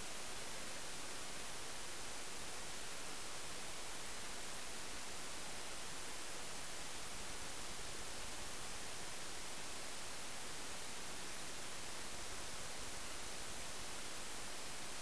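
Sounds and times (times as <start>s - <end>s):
recording hiss: 0.0s - 15.0s.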